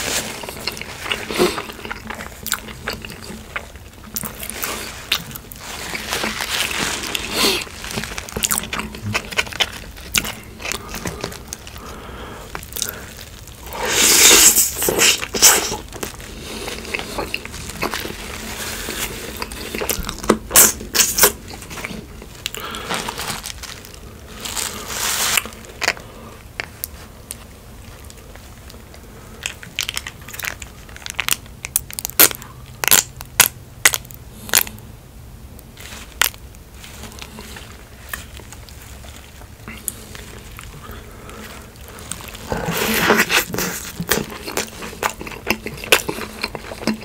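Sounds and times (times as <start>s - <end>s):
crunching bite: 0.0s - 27.0s, 28.0s - 34.8s, 35.8s - 47.0s
chewing with mouth clicks: 0.1s - 23.8s, 28.0s - 34.8s, 35.8s - 47.0s.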